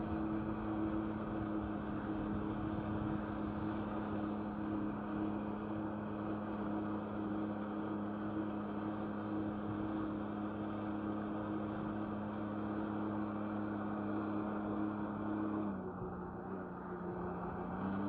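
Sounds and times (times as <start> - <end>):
jet ski engine drone: 0.0 - 18.0.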